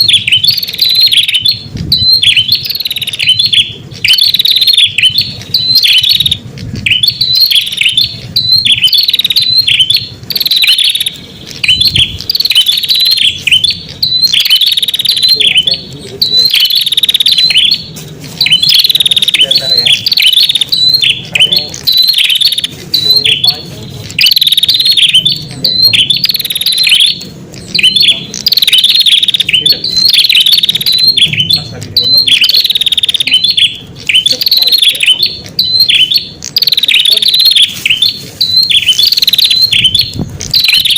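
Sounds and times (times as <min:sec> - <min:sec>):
bird chirping calls: 0:00.0 - 0:40.9.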